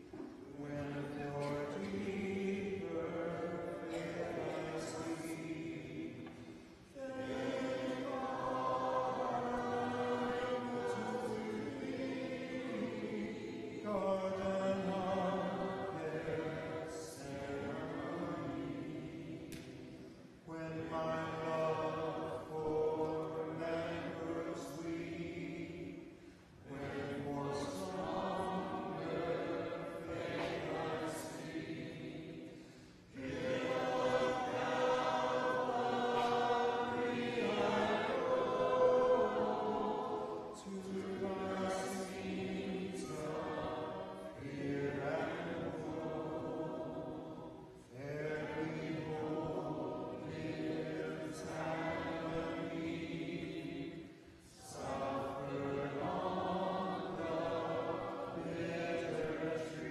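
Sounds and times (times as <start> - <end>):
congregation singing a hymn: 0.0 - 59.9.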